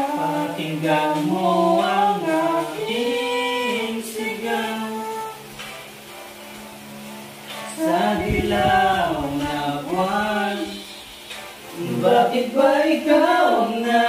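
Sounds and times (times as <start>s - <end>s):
person singing: 0.0s - 5.5s, 7.7s - 14.0s
music backing: 0.0s - 14.0s.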